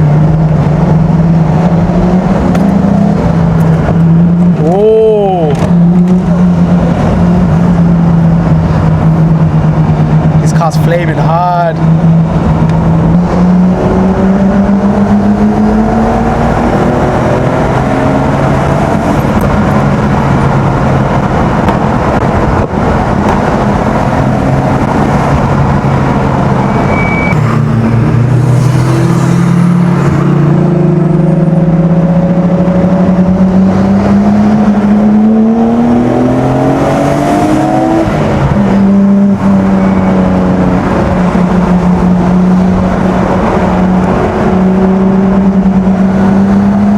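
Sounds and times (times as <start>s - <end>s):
car engine accelerating hard: 0.0s - 46.9s.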